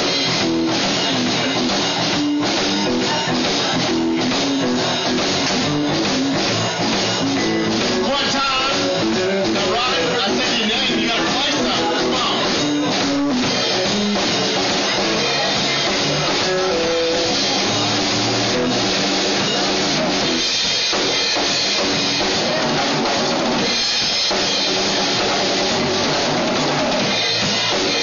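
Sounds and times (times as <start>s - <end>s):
blues band playing: 0.0s - 28.0s.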